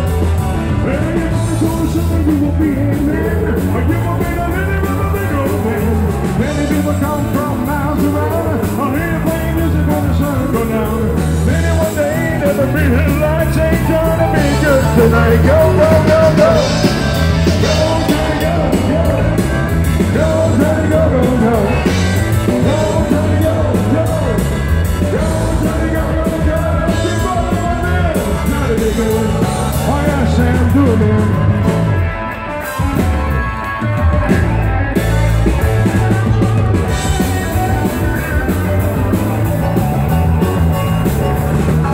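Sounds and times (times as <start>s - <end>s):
bass guitar: 0.0s - 41.9s
drums: 0.0s - 41.9s
electric guitar: 0.0s - 41.9s
man singing lead: 0.0s - 41.9s.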